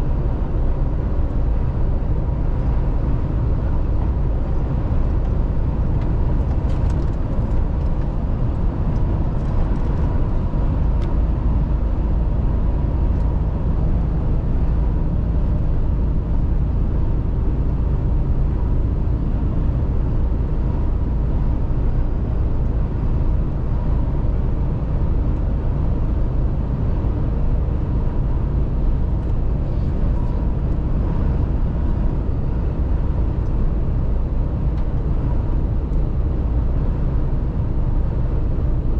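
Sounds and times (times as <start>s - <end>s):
road noise: 0.0s - 38.9s
truck diesel engine rumble: 0.0s - 38.9s.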